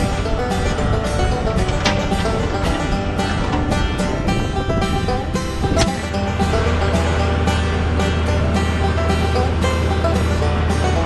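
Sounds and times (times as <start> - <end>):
bluegrass tune with plucked strings: 0.0 - 11.0.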